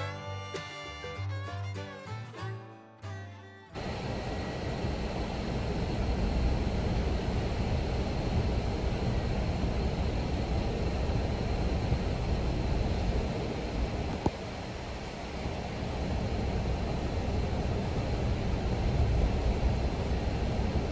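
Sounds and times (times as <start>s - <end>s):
faint high whine: 3.8s - 20.9s
low rumbling noise: 3.8s - 20.9s.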